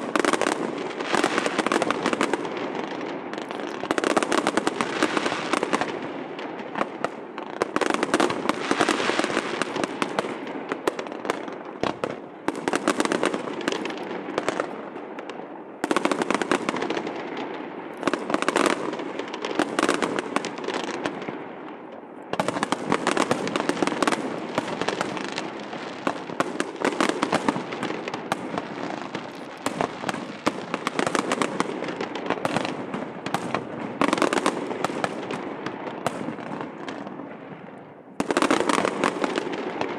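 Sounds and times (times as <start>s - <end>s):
fireworks crackling and popping: 0.0s - 39.9s.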